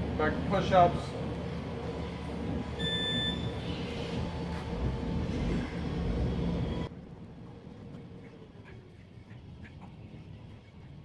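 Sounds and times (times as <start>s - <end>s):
low mechanical rumble with hum: 0.0s - 11.0s.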